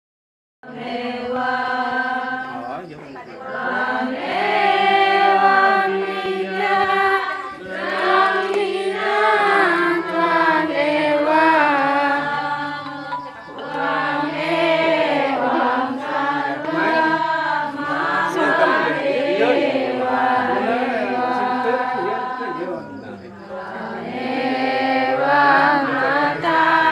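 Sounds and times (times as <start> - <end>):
voices singing a slow chant: 0.6 - 26.9.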